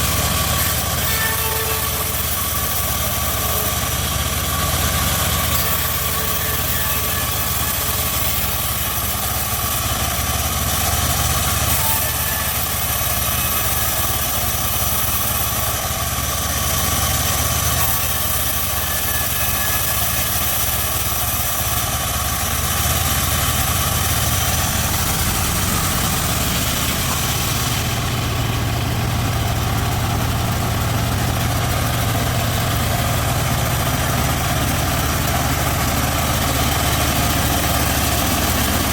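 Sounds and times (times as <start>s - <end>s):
bandsaw mill sawing wood: 0.0s - 38.9s.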